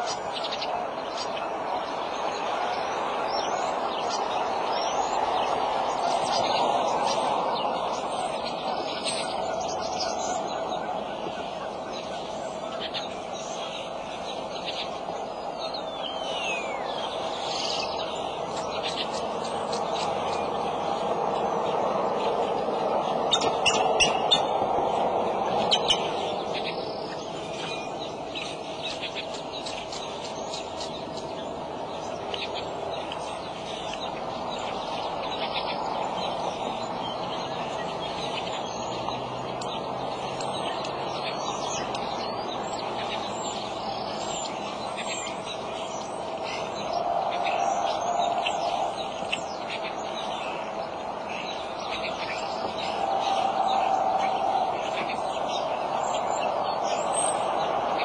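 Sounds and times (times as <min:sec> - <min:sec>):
small birds chirping: 0:00.0 - 0:58.0
steady background hum: 0:00.0 - 0:58.0.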